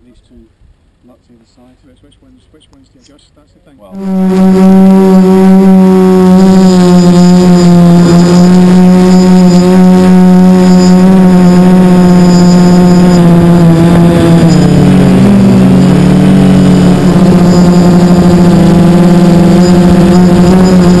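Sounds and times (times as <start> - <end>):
drone motors and propellers whining: 3.9 - 21.0.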